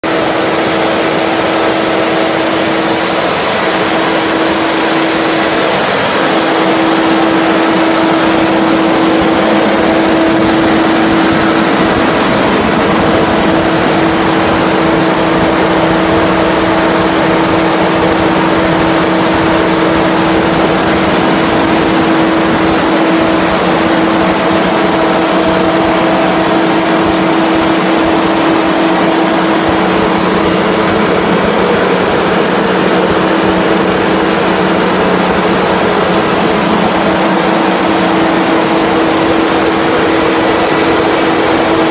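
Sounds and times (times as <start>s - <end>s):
generator engine drone: 0.0s - 41.9s
steady hum: 0.0s - 41.9s.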